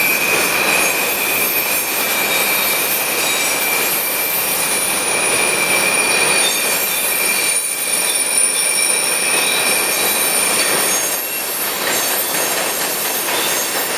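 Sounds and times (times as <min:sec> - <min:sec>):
rolling rail cars: 0:00.0 - 0:13.9
train wheels squealing on rails: 0:00.0 - 0:13.9.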